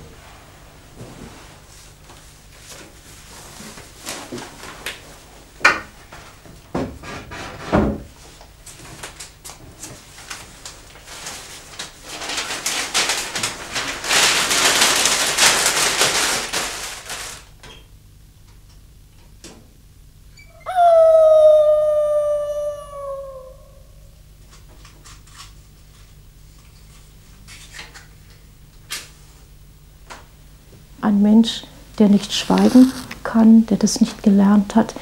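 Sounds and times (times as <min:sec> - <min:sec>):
steady hiss-like noise: 0:00.0 - 0:20.6, 0:23.2 - 0:35.0.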